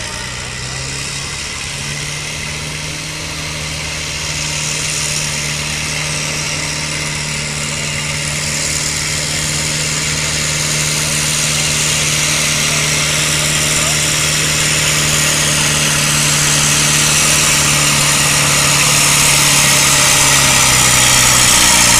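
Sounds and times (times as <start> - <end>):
tractor engine running hard: 0.0 - 21.9.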